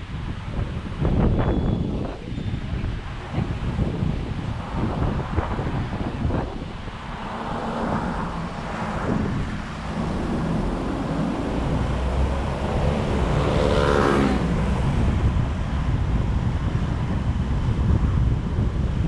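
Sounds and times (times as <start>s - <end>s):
road traffic noise: 0.0s - 19.0s
wind rumbling on microphone: 0.0s - 19.0s
passing vehicle engine: 2.6s - 19.0s.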